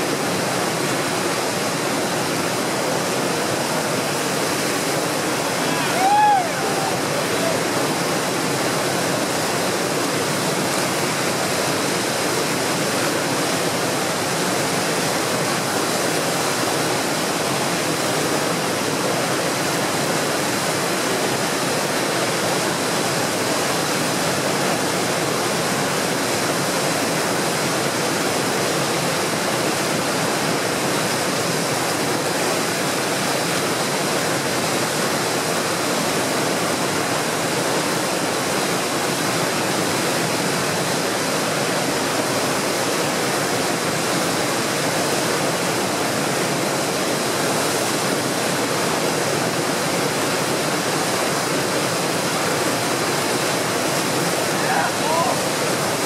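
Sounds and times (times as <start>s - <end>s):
rushing tidal rapids: 0.0s - 56.0s.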